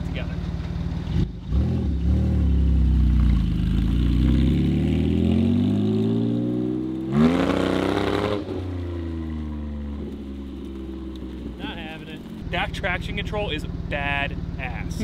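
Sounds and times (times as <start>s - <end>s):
car engine revving: 0.9s - 15.0s.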